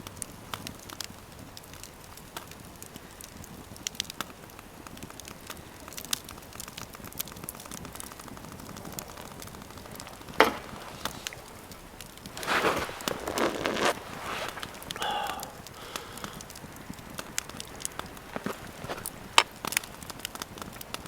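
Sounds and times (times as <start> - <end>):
wood fire crackling: 0.2 - 21.0.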